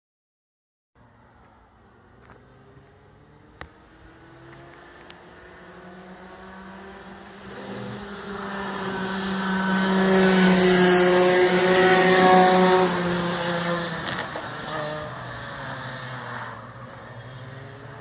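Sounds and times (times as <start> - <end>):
racing kart engine passing: 2.0 - 18.0.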